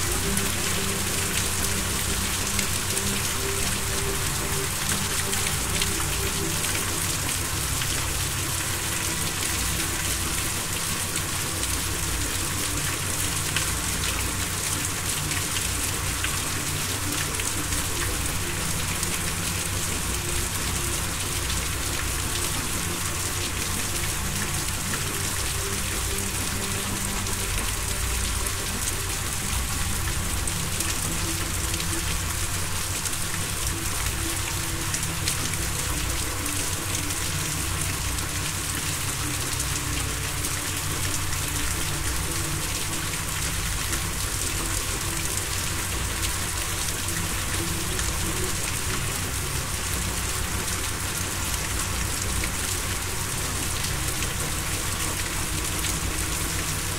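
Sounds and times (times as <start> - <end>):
rain-like hiss: 0.0 - 56.9.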